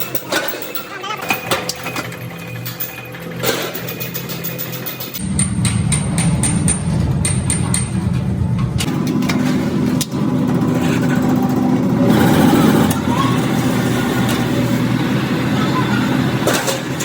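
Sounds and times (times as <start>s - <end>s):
motor humming: 1.0s - 17.0s.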